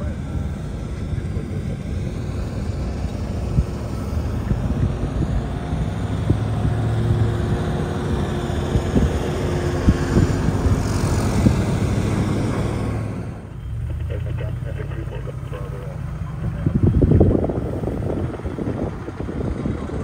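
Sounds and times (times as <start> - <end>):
low rumble of vehicle engines: 0.0 - 20.0.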